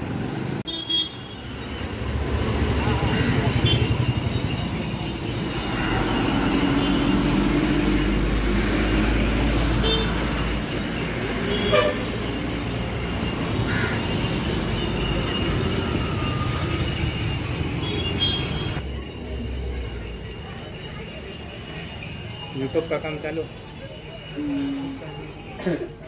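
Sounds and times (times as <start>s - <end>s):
vehicle engines passing: 1.4s - 26.0s.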